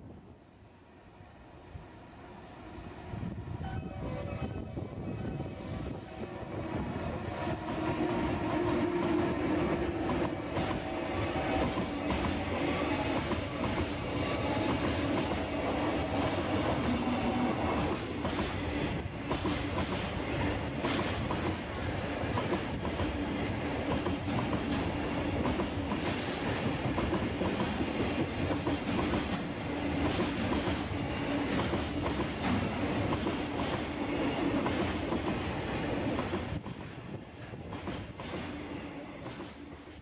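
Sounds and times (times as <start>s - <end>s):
train wheels clacking on rails: 7.4s - 40.0s.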